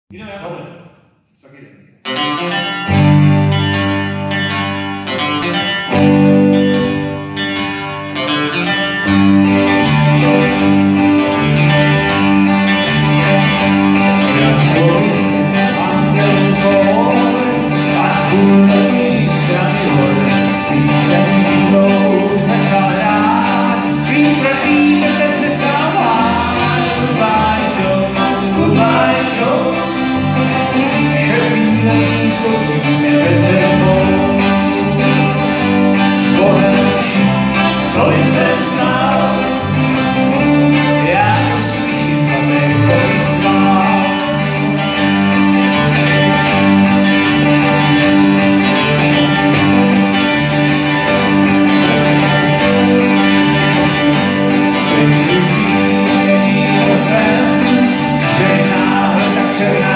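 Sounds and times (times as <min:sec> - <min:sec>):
bending guitar melody: 0:01.9 - 0:59.9
bass guitar line: 0:02.0 - 0:59.9
strummed guitar chords: 0:02.0 - 0:59.9
band playing country music: 0:02.1 - 0:59.9.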